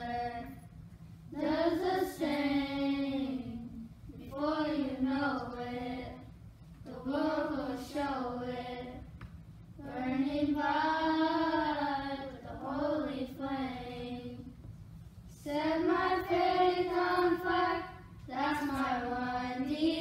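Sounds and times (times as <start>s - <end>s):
children singing a hymn: 0.0s - 0.6s, 1.3s - 6.2s, 6.9s - 9.1s, 9.8s - 14.5s, 15.4s - 20.0s.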